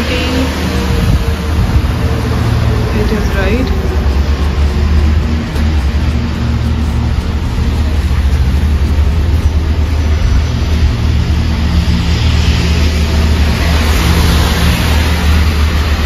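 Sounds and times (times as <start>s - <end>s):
car passing on wet road: 0.0s - 16.0s
wind rumble on microphone: 0.0s - 16.0s.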